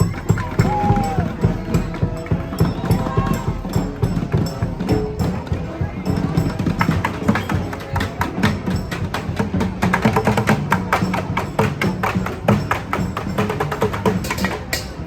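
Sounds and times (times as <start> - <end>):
street band playing: 0.0 - 15.0
wood-block-like percussion strikes: 0.0 - 15.0.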